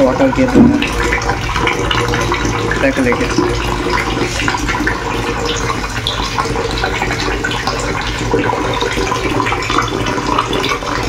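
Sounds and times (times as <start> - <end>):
tap water splashing into sink: 0.0 - 11.0.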